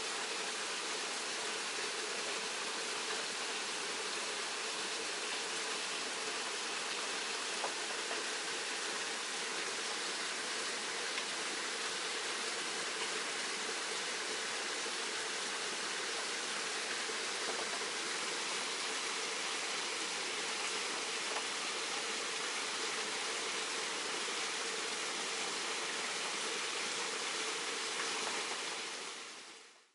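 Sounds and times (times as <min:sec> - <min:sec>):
waterfall splashing over rocks: 0:00.0 - 0:29.6.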